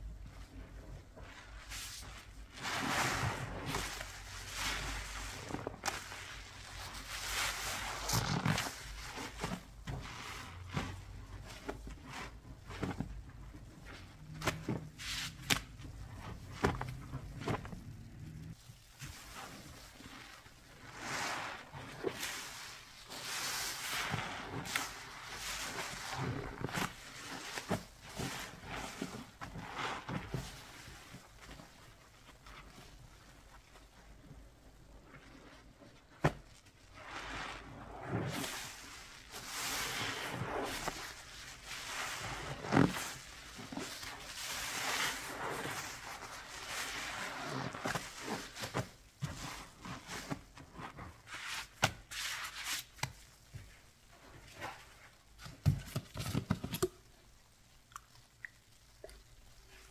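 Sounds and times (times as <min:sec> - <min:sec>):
hand scrubbing with paste: 0:00.2 - 0:55.6.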